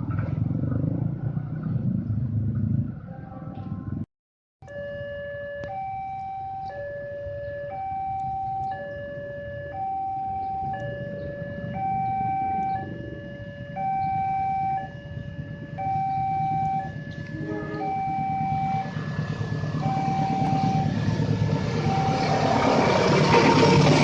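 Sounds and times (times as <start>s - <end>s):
two-tone siren: 4.6s - 24.0s.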